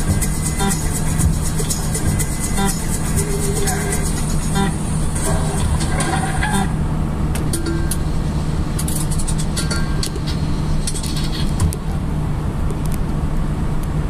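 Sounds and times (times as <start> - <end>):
van engine and road noise drone: 0.0 - 14.0.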